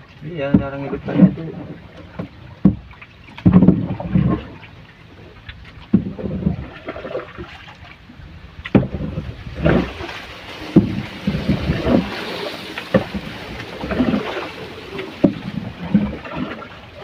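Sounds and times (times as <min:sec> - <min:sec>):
knocks and thumps on a boat: 0:00.0 - 0:17.0
wind and water hiss: 0:00.0 - 0:17.0.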